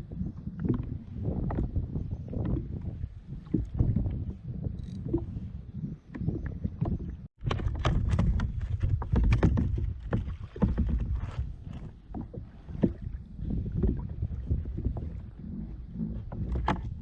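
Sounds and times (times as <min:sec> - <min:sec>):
wind rumble on microphone: 0:00.0 - 0:17.0
water slapping against kayak hull: 0:00.1 - 0:17.0.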